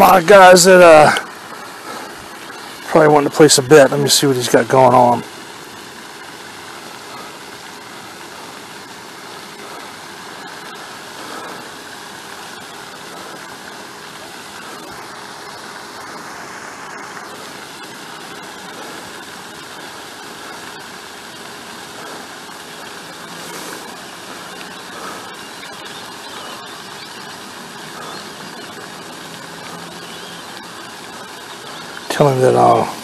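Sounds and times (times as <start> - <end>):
bike road noise: 0.0 - 33.0.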